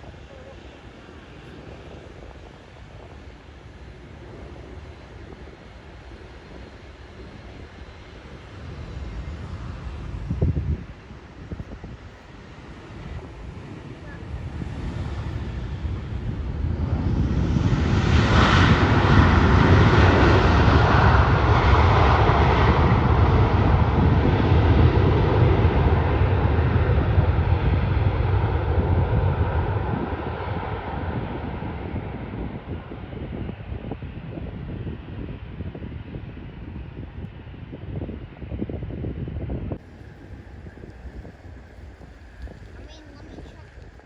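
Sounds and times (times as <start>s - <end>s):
airliner engines passing: 0.0s - 44.0s.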